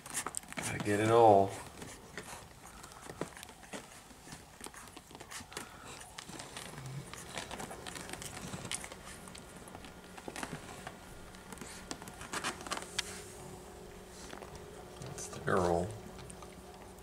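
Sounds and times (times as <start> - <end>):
puppies suckling clicks: 0.0 - 13.1, 14.2 - 17.0
rustling: 0.0 - 17.0.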